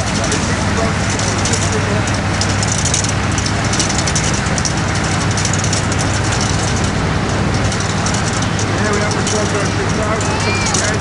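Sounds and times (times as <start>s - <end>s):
constant rushing hiss: 0.0s - 11.0s
diesel engine running: 0.0s - 11.0s.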